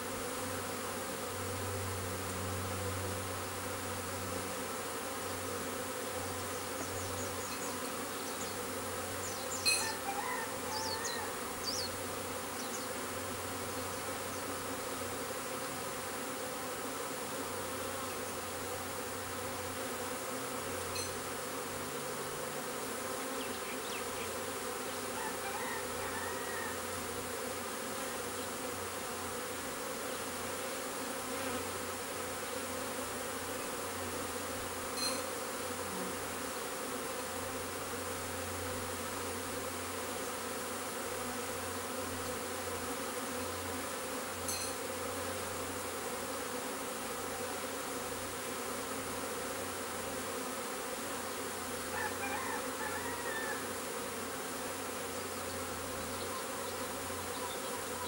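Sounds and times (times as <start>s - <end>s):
honeybee swarm buzzing: 0.0s - 58.0s.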